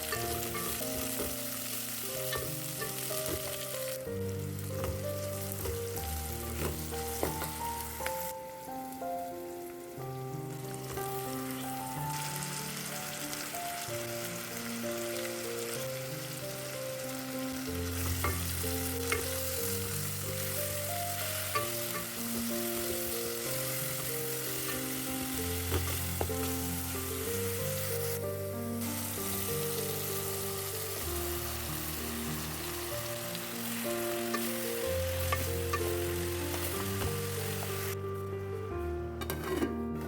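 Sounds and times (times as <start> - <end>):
vegetables sizzling in a pan: 0.0 - 38.0
background music with held notes: 0.0 - 40.0.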